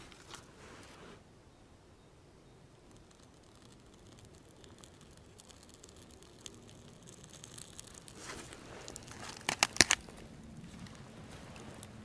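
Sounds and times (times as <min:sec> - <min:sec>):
burning bark crackling: 0:02.2 - 0:12.0.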